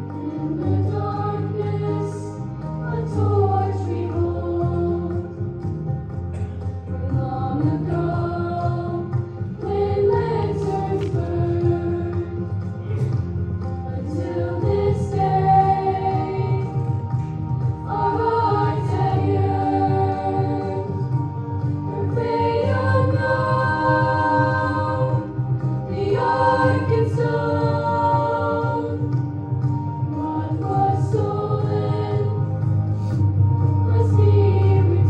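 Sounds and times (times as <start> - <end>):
choir singing held chords: 0.0 - 5.6, 6.3 - 35.0.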